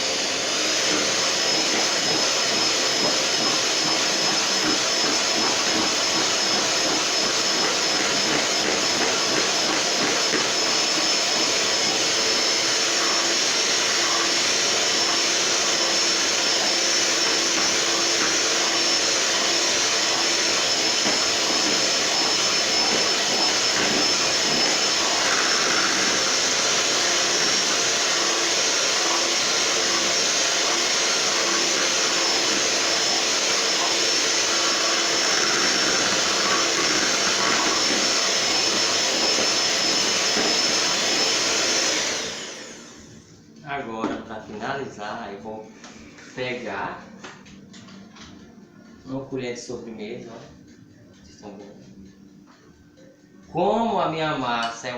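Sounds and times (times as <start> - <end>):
electric mixer beating batter: 0.0 - 54.9.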